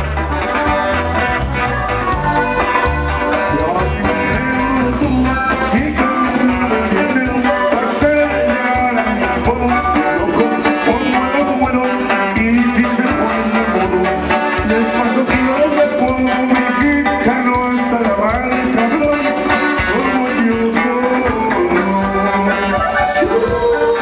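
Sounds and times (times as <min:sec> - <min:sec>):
live band playing dance music: 0:00.0 - 0:24.0.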